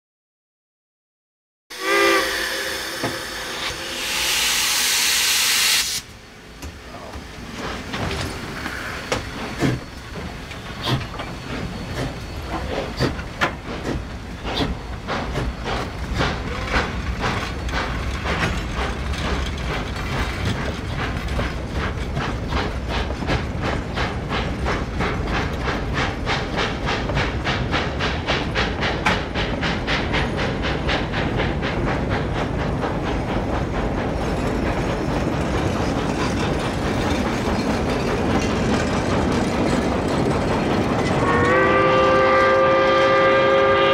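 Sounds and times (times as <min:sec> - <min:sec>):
steam locomotive chuffing: 0:01.7 - 0:43.9
passenger coaches rolling past: 0:01.8 - 0:43.9.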